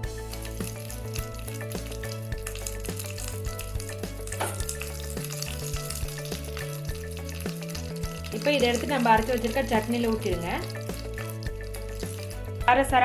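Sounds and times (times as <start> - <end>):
seeds sizzling in hot oil: 0.0 - 12.9.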